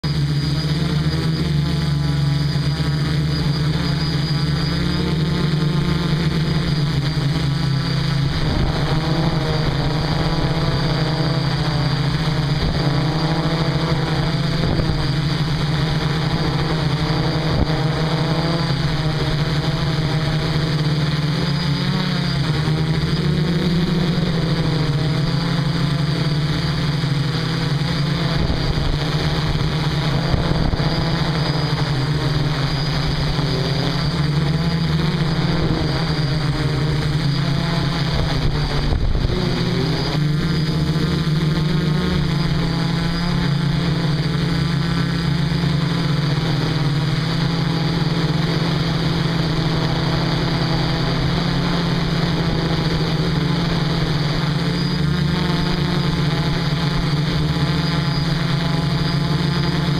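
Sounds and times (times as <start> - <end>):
drone motors and propellers: 0.0 - 59.9.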